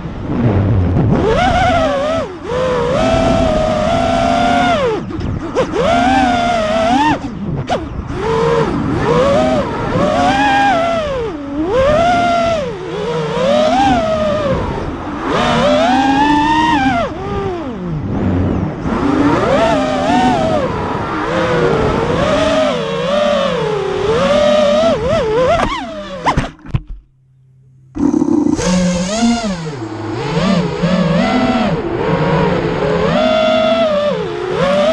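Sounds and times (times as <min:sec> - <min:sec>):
drone motors whining: 0:00.0 - 0:27.1, 0:27.9 - 0:34.9.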